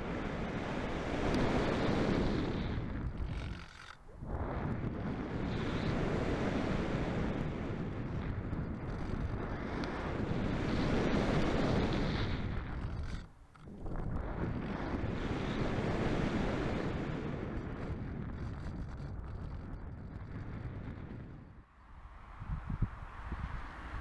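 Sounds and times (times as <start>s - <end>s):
wind noise over camera: 0.0s - 21.7s, 22.3s - 24.0s.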